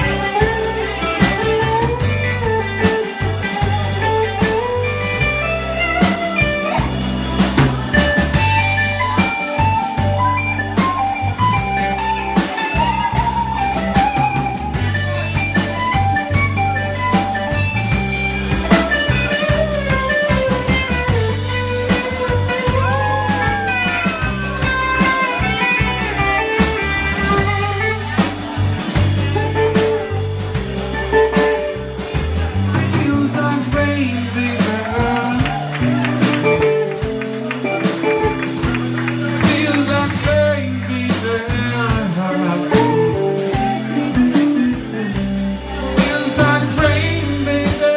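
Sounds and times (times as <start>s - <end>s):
blues band playing: 0.0s - 47.9s
electric guitar lead bending notes: 0.0s - 47.9s.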